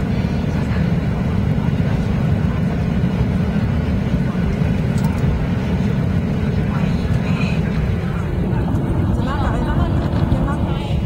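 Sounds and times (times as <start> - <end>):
airplane cabin rumble while taxiing: 0.0 - 11.0.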